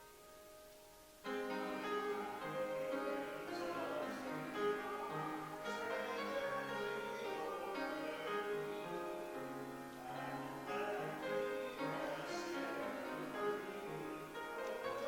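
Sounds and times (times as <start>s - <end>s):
slow keyboard music: 0.0s - 15.0s.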